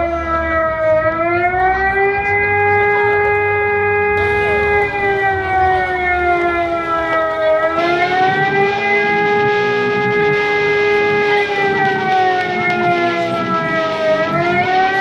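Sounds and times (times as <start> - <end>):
siren steady tone: 0.0 - 15.0.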